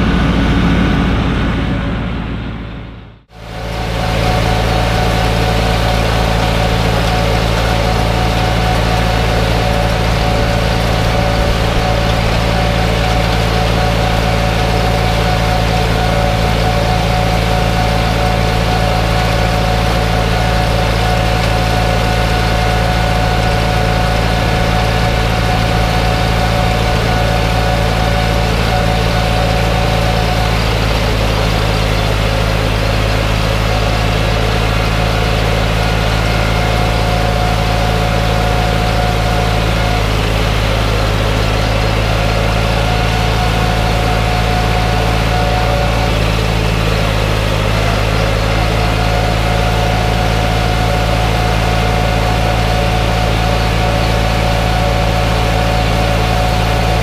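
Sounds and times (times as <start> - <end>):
thin mower whine: 0.0 - 57.0
tractor diesel engine running: 0.0 - 57.0.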